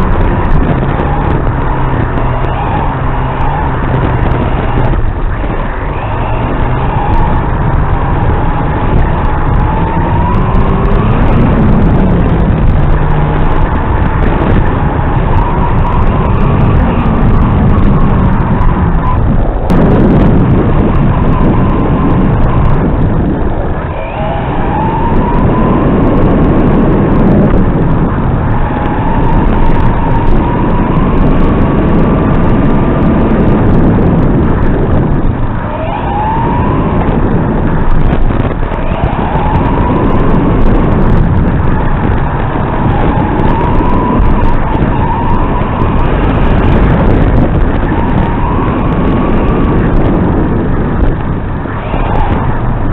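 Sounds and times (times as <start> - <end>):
tyres and chassis rumble: 0.0 - 52.9.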